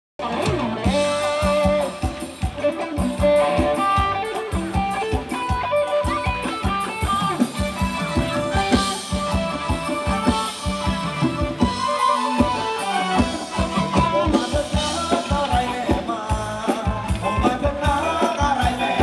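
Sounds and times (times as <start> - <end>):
electric guitar: 0.2 - 19.0
steady drum beat: 0.2 - 19.0.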